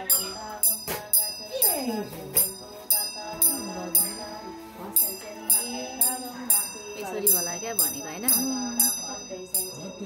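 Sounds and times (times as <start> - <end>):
gliding melody: 0.0 - 10.0
song with jingling percussion: 0.0 - 10.0.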